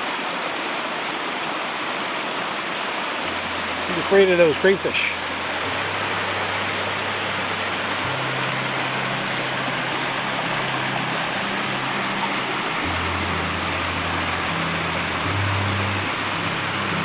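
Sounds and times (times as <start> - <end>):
mountain stream rushing: 0.0 - 17.0
soft background music: 3.2 - 17.0.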